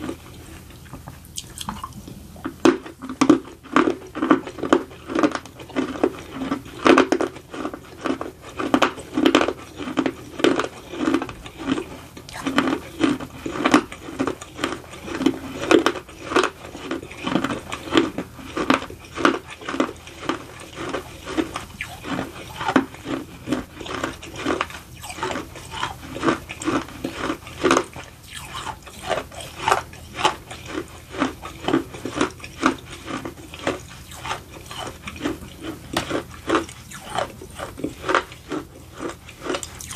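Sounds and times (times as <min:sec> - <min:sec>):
crisp chewing crunches: 0:00.0 - 0:39.9.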